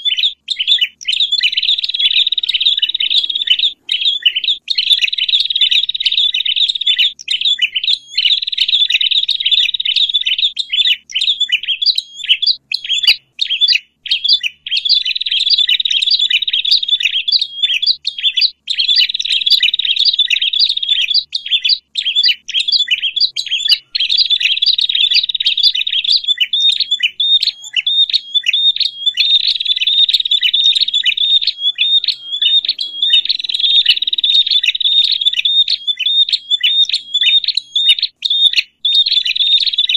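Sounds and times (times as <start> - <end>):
small birds chattering: 0.0 - 39.9.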